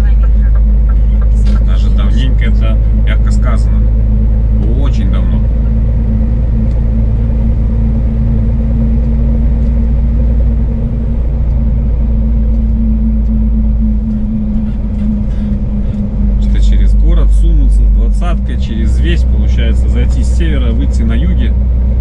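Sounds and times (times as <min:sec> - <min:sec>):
road rumble: 0:00.0 - 0:22.0
truck engine drone in cab: 0:00.0 - 0:22.0.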